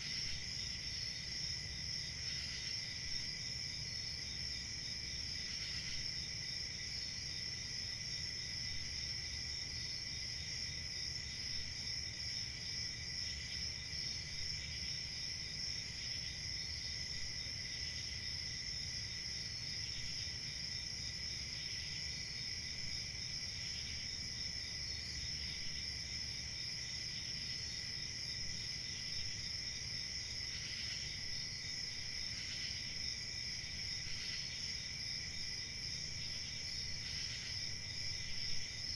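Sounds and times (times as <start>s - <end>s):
crickets chirping chorus: 0.0s - 38.9s.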